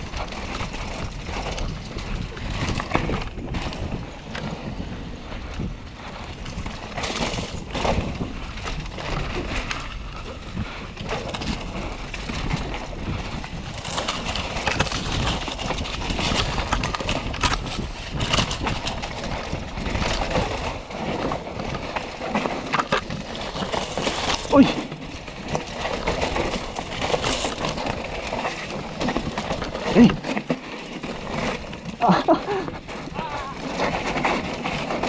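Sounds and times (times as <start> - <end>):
bike knocking and rattling: 0.0 - 35.0
bike tyres on loose dirt: 0.0 - 35.0
wind rumble on microphone: 0.0 - 35.0.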